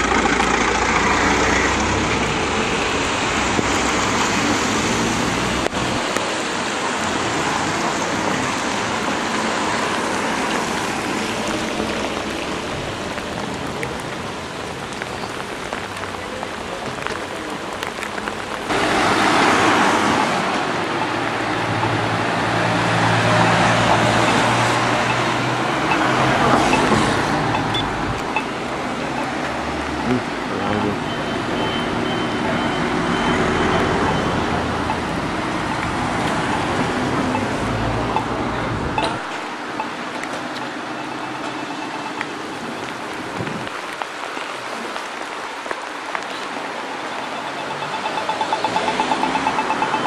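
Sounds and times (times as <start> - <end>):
steady rain: 0.0 - 50.0
tyre hiss on wet street: 0.0 - 50.0.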